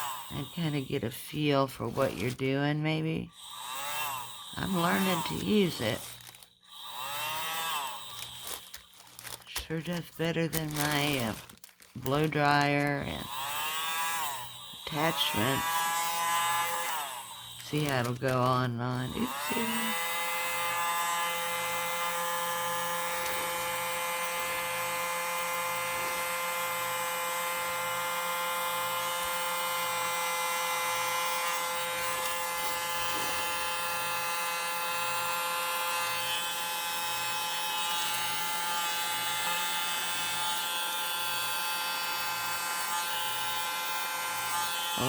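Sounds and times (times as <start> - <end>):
small hair dryer whining: 0.0 - 1.0, 3.4 - 9.6, 10.5 - 45.0.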